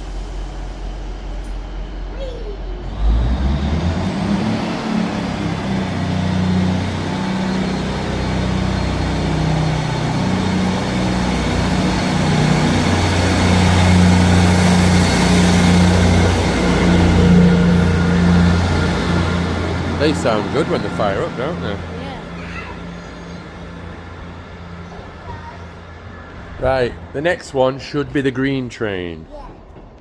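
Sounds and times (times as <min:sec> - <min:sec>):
diesel locomotive engine throbbing: 0:00.0 - 0:30.0.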